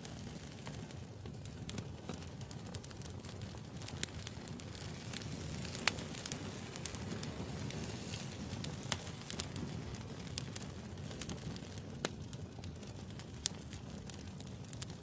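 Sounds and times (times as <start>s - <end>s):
campfire hiss and rumble: 0.0s - 15.0s
fire crackling and popping: 0.0s - 15.0s.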